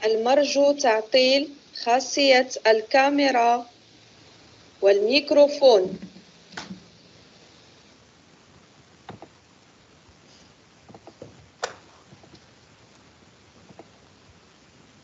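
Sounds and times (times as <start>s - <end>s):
quiet background hiss: 0.0s - 15.0s.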